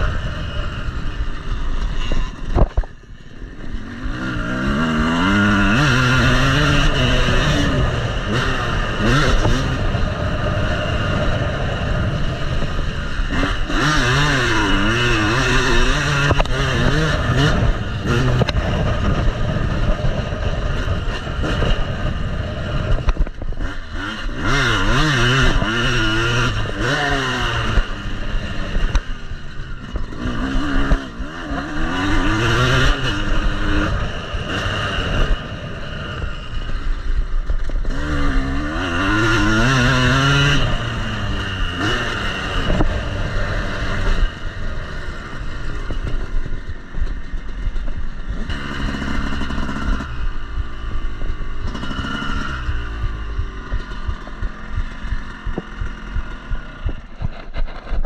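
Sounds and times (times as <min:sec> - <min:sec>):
bike rattling: 0:00.0 - 0:58.0
motocross bike engine revving: 0:00.0 - 0:58.0
wind rushing on camera: 0:00.0 - 0:58.0.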